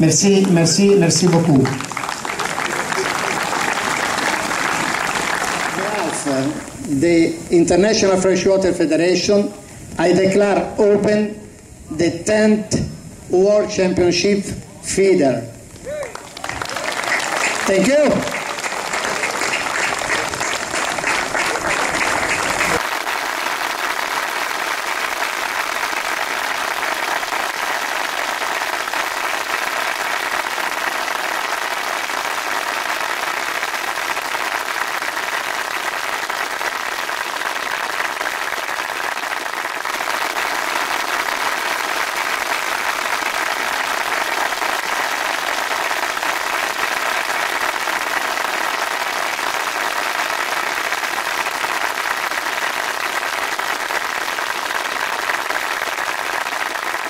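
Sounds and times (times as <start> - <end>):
crowd applauding: 0.0 - 7.0, 15.7 - 57.0.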